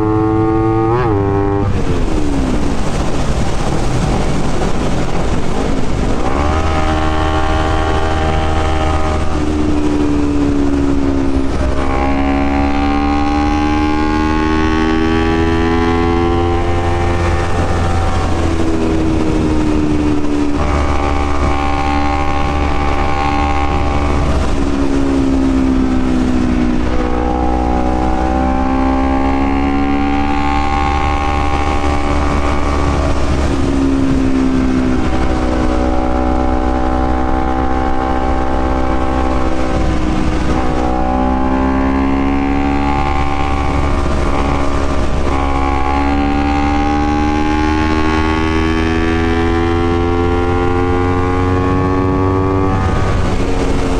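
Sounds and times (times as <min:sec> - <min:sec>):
low engine rumble: 0:00.0 - 0:53.9
motorcycle engine revving through gears: 0:00.0 - 0:53.9.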